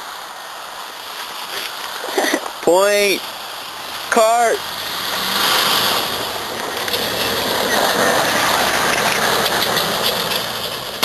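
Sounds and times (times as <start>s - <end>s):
tyres on gravel: 0.1s - 11.0s
gravel ticking: 0.8s - 11.0s.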